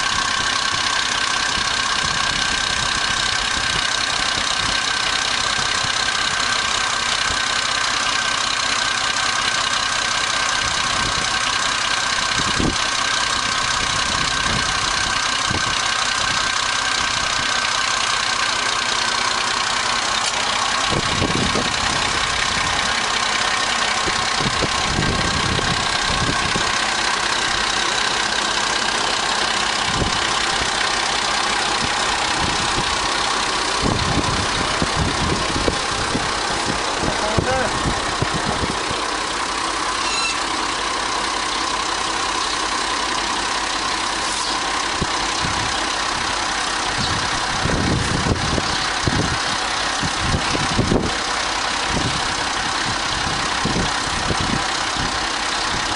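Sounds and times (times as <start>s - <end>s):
engine running steadily: 0.0s - 55.9s.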